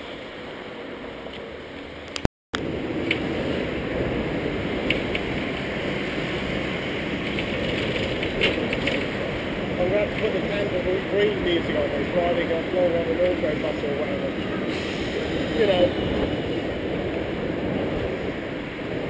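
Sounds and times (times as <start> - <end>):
tram wheels rumbling on rails: 0.5 - 19.0.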